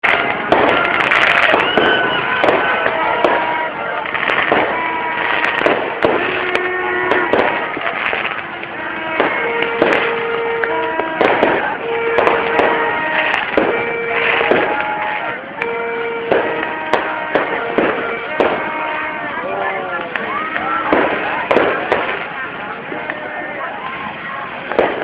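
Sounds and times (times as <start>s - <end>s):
crowd voices: 0.0s - 25.0s
fireworks bangs: 0.0s - 25.0s.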